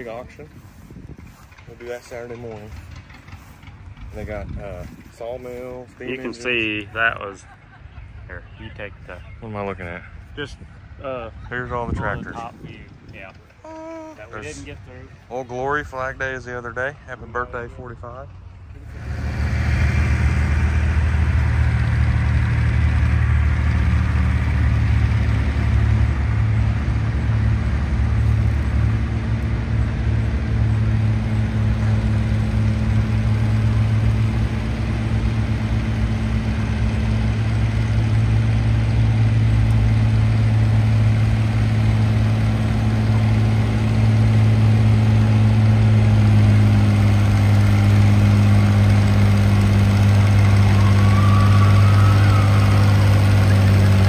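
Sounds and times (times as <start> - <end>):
large engine idling: 0.0 - 8.2, 12.7 - 54.0.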